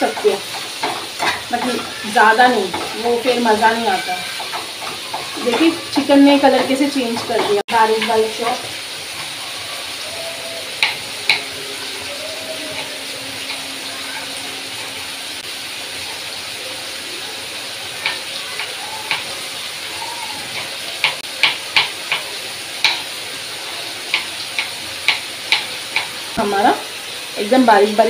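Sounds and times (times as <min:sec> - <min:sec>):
chicken sizzling in frying pan: 0:00.0 - 0:28.0.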